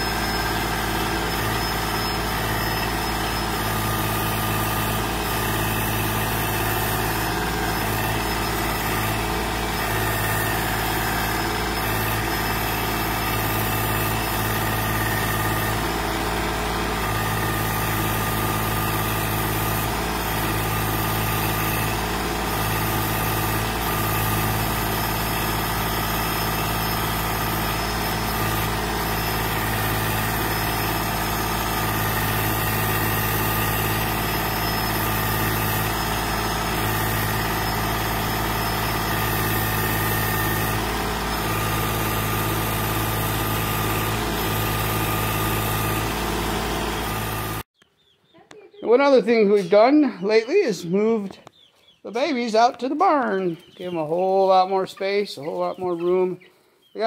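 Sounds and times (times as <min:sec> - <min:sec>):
tractor engine running: 0:00.0 - 0:47.8.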